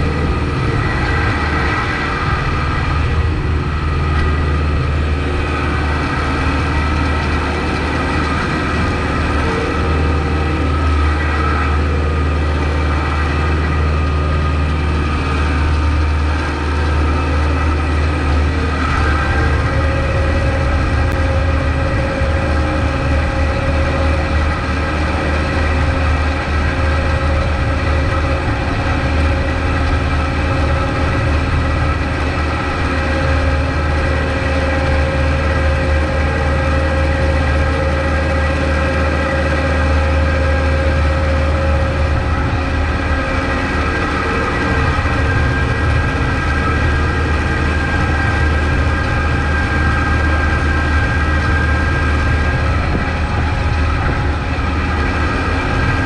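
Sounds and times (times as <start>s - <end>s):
steady higher tone: 0.0s - 56.0s
tractor diesel engine running: 0.0s - 56.0s.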